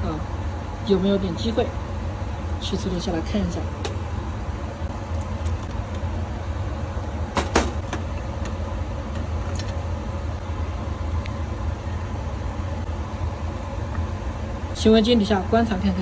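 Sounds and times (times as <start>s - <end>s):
air handling hum: 0.0s - 16.0s.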